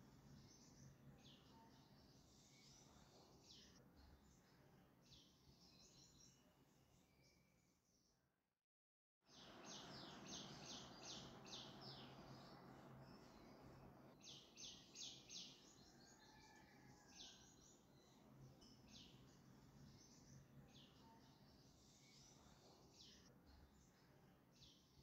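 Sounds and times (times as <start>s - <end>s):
faint birds chirping: 0.0s - 8.2s, 9.3s - 25.0s.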